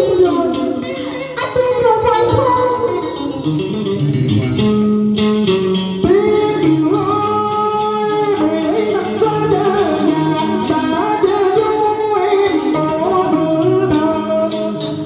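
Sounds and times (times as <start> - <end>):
man singing into microphone: 0.0 - 3.9, 6.0 - 15.0
plucked guitar: 0.0 - 15.0.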